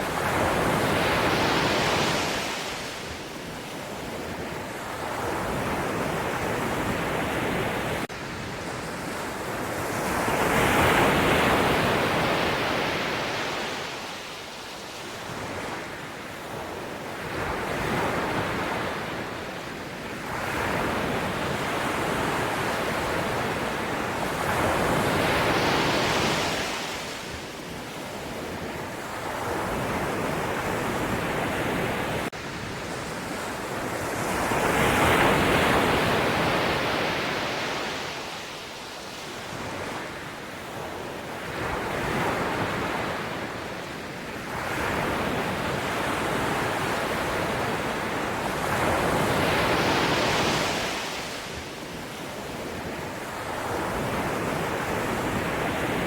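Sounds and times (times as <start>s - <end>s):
sea waves breaking ashore: 0.0s - 15.9s, 20.3s - 56.0s.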